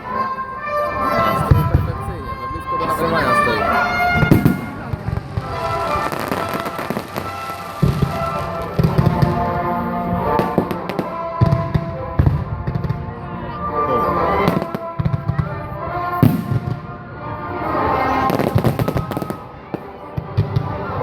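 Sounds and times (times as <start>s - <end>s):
music playing: 0.0s - 21.0s
fireworks bangs and crackles: 1.4s - 13.1s, 14.4s - 21.0s.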